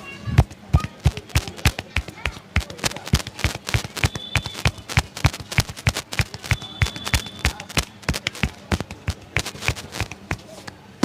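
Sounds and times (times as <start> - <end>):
hands slapping body: 0.4 - 10.8.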